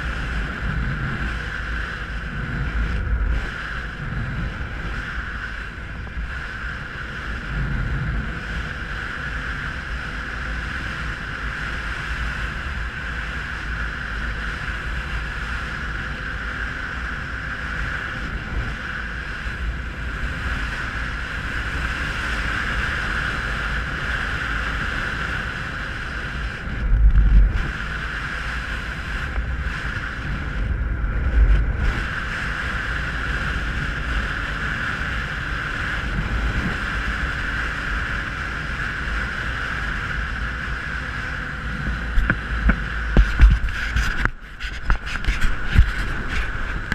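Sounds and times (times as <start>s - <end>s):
dirt bike engine running: 0.0s - 46.9s
low wind buffeting: 0.0s - 46.9s
wind rush on microphone: 0.0s - 46.9s.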